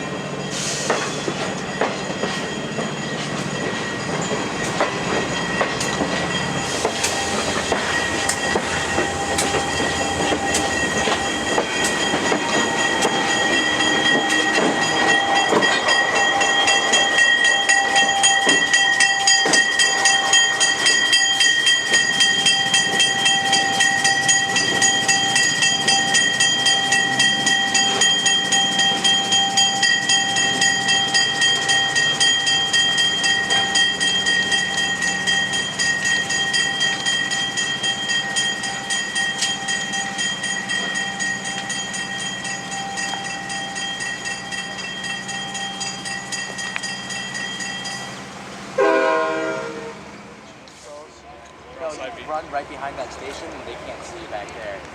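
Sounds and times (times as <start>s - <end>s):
locomotive bell ringing: 0.0s - 54.9s.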